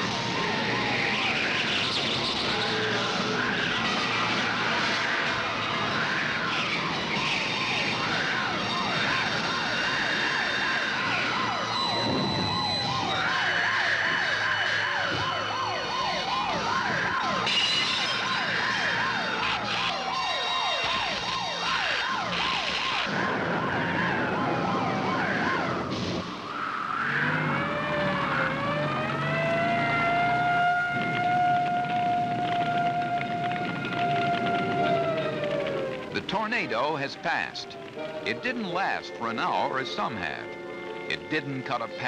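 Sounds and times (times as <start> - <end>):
yelping siren: 0.0 - 39.1
long falling siren glide: 0.0 - 39.7
wailing siren: 0.0 - 41.4.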